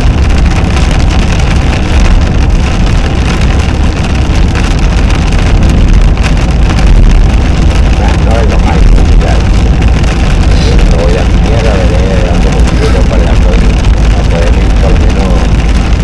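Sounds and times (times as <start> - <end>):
tyres and engine rumbling: 0.0 - 16.0.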